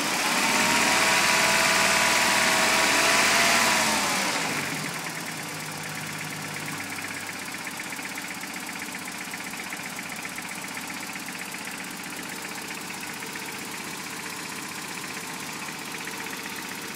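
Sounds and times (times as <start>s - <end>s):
engine idling: 0.0s - 16.9s
fast even engine knocking: 0.3s - 16.9s.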